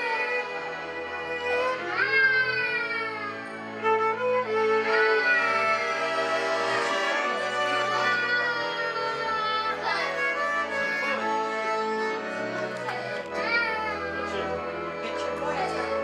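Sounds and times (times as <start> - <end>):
accordion: 0.0 - 16.0
violin: 0.0 - 16.0.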